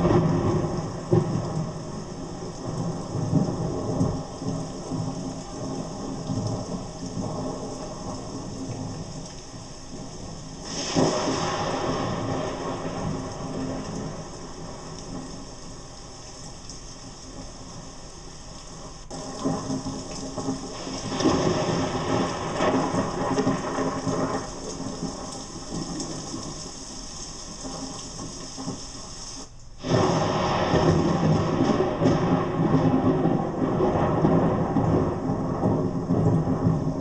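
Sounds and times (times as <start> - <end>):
thunder rumbles: 0.0 - 29.2, 29.8 - 37.0
steady rain: 0.0 - 37.0.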